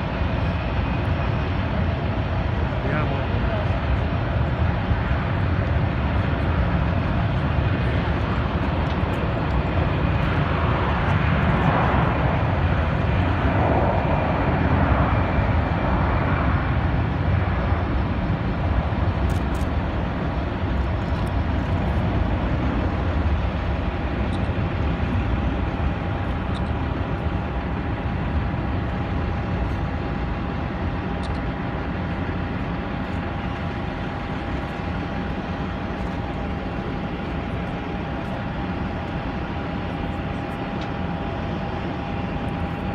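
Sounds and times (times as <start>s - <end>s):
jet engines low rumble: 0.0s - 42.9s
steady engine whine: 0.0s - 42.9s.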